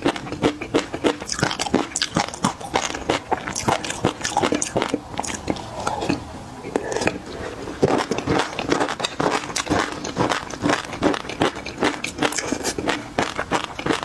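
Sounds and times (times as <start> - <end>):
close chewing with smacks: 0.0 - 14.0.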